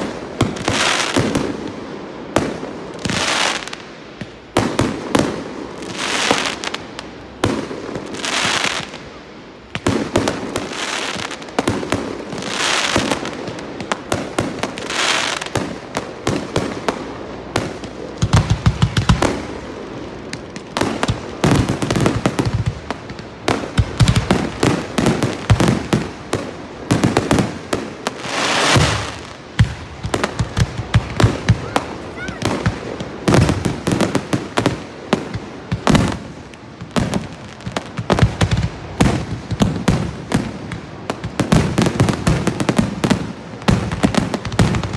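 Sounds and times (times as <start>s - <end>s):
fireworks hissing crackle: 0.0s - 44.9s.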